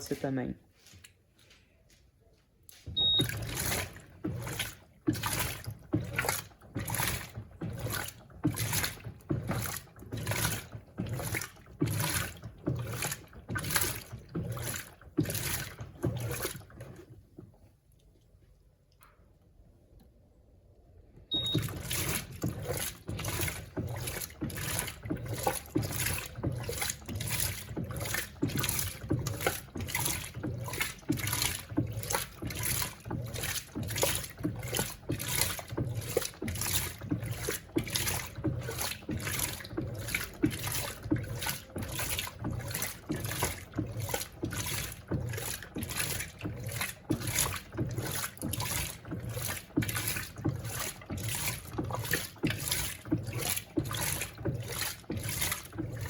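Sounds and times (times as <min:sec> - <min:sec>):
washing machine agitating water: 0:00.0 - 0:01.3, 0:02.6 - 0:56.0.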